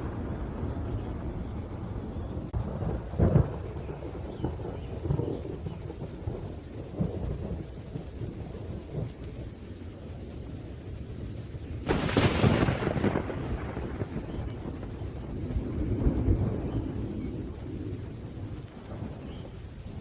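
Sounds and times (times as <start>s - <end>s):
sharp thunderclap: 0.0s - 9.4s, 11.8s - 19.5s
low rumbling thunder: 0.0s - 20.0s
rain falling: 0.0s - 20.0s.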